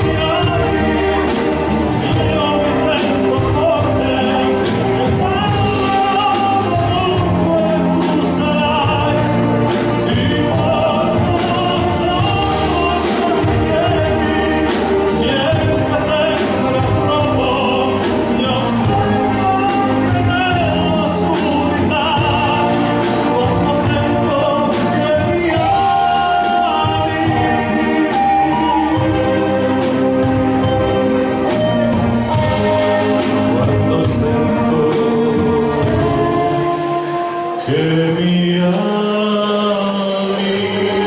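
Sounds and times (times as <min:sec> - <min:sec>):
man singing a pop ballad: 0:00.0 - 0:29.2, 0:33.2 - 0:36.6, 0:37.6 - 0:41.0
instrumental accompaniment: 0:00.0 - 0:41.0.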